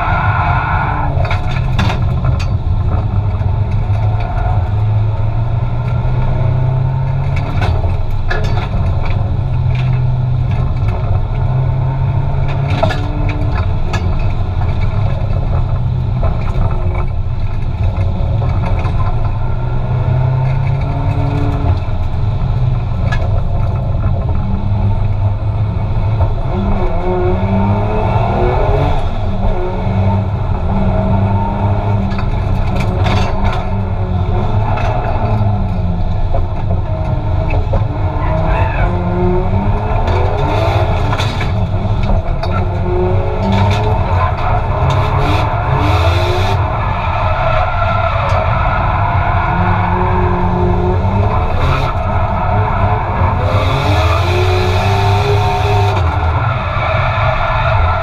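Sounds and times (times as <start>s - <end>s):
turbocharged car engine revving: 0.0s - 58.0s.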